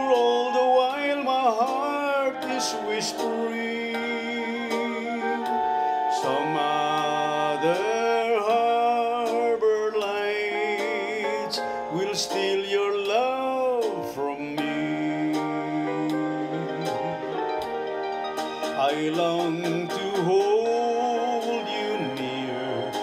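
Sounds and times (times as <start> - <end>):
sliding lead melody: 0.0 - 23.0
slow song with guitar: 0.0 - 23.0.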